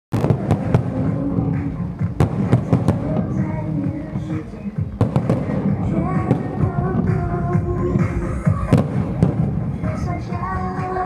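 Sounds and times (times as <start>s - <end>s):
fireworks bursting with bangs: 0.1s - 11.0s
music: 0.2s - 11.0s.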